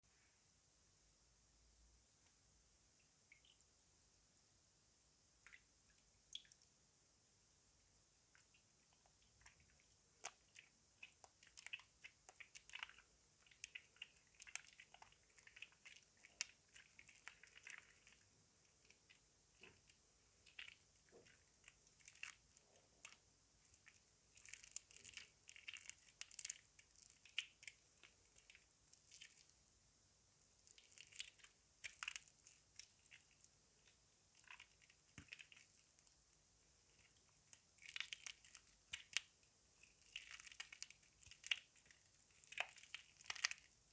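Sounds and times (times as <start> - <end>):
wet soap squished by hand: 8.2 - 43.9.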